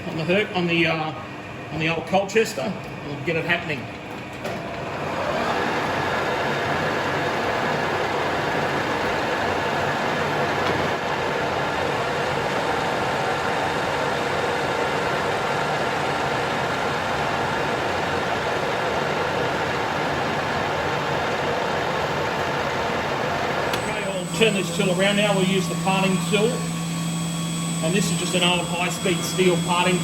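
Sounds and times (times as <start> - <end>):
lathe machine hum: 0.0 - 30.0.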